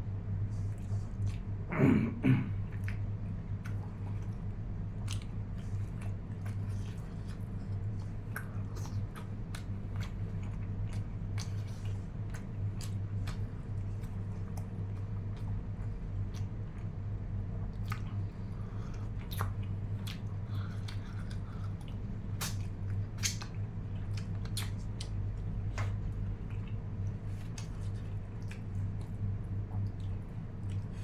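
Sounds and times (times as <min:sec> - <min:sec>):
person chewing food: 0:00.5 - 0:01.6, 0:02.6 - 0:31.0.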